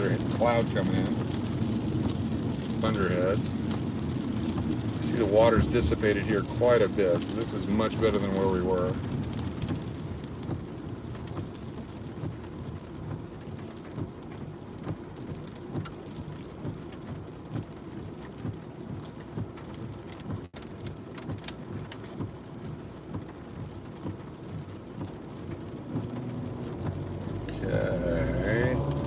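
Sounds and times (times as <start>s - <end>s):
car driving on wet road: 0.0s - 29.0s
rain pattering on car roof: 0.0s - 29.0s.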